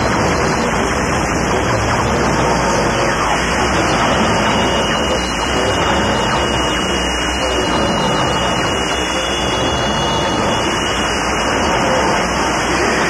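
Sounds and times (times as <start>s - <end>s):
harsh distorted noise music: 0.0s - 13.0s
thin high whine: 0.0s - 13.0s.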